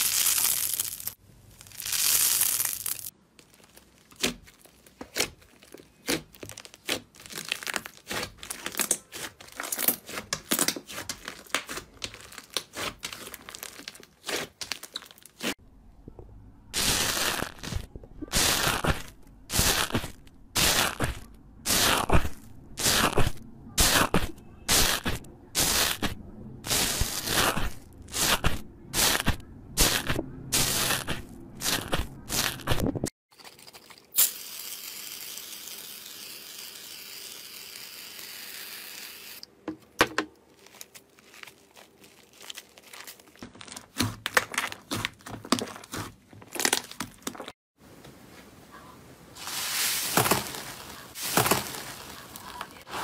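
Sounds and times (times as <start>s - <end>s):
crinkly slime crackles: 0.0s - 15.6s, 16.8s - 32.8s, 40.4s - 47.6s, 49.4s - 53.0s.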